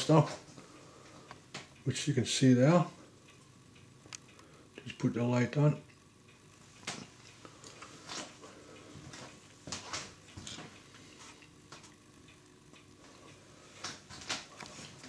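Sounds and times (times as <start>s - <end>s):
low room hum: 0.0s - 15.0s
faint clicks and taps: 0.2s - 1.9s, 3.3s - 5.0s, 5.8s - 15.0s.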